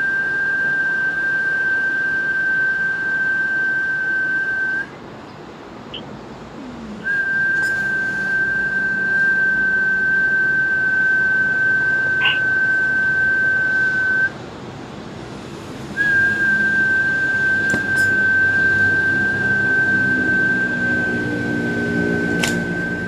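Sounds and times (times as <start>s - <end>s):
steady high pure tone: 0.0s - 14.7s, 15.8s - 23.0s.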